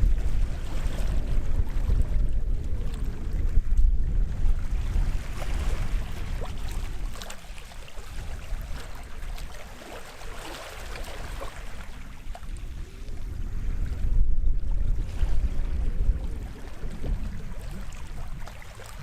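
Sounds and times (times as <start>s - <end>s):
small waves lapping on shore: 0.0s - 19.0s
wind rumble on microphone: 0.0s - 19.0s.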